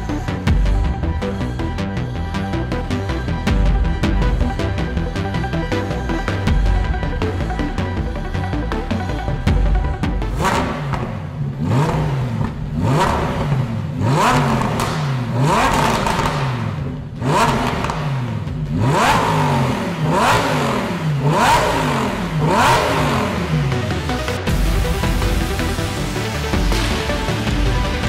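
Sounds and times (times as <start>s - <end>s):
sports car engine revving: 0.0s - 28.0s.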